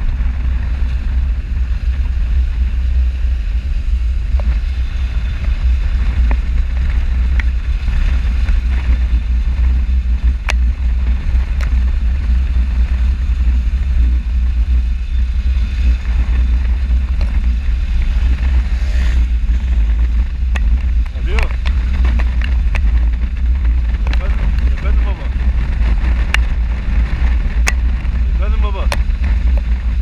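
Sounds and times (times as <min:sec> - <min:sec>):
motorcycle engine: 0:00.0 - 0:30.0
road noise: 0:00.0 - 0:30.0
wind rushing over microphone: 0:00.0 - 0:30.0.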